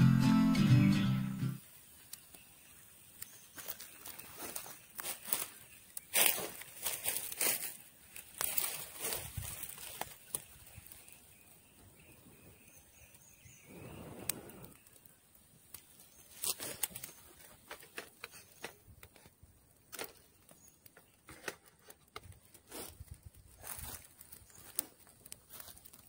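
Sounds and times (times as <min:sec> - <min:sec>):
campfire clicks and crackles: 0:01.5 - 0:26.0.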